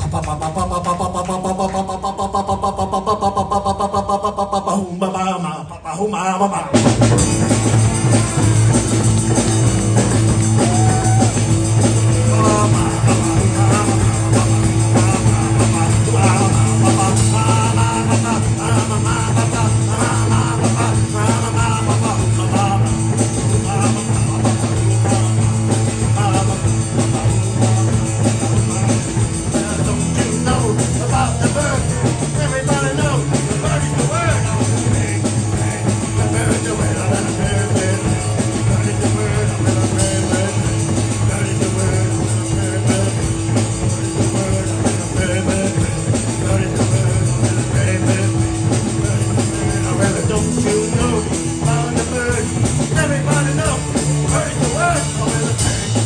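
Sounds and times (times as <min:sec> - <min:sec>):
bass line: 0:00.0 - 0:56.0
person singing: 0:00.0 - 0:56.0
electric guitar: 0:06.6 - 0:56.0
surf rock band playing: 0:06.7 - 0:56.0.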